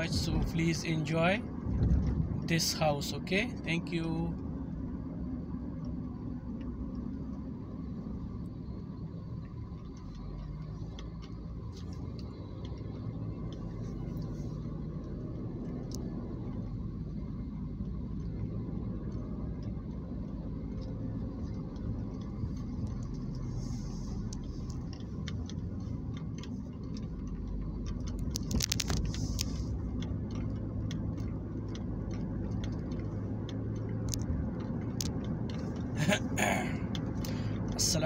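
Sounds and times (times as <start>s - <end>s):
car engine and tyres rumbling: 0.0s - 38.0s.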